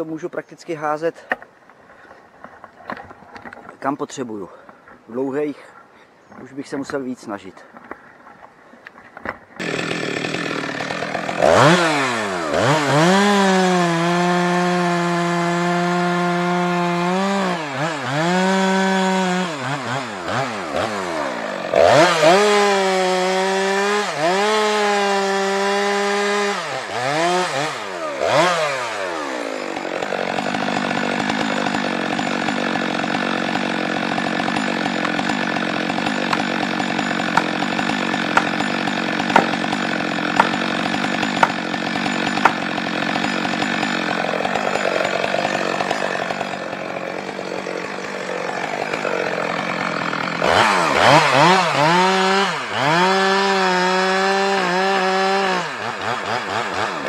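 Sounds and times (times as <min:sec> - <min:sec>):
chainsaw cutting wood: 0:09.2 - 0:57.0
chainsaw idling: 0:09.6 - 0:57.0.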